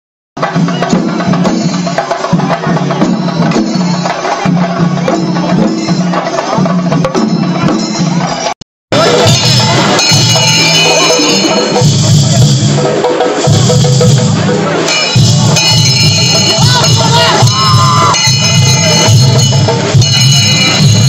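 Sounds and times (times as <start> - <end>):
percussion music with drum beat: 0.4 - 21.0.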